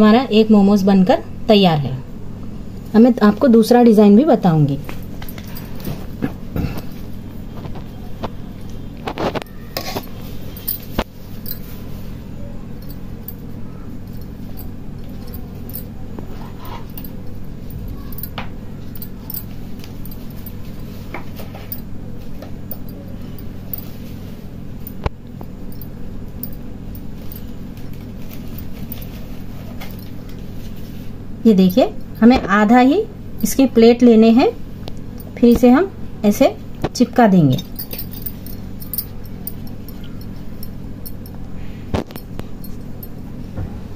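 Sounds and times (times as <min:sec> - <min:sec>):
steady low hum: 0:00.0 - 0:43.9
bangles clinking: 0:04.7 - 0:07.5, 0:09.6 - 0:35.9, 0:37.0 - 0:43.4.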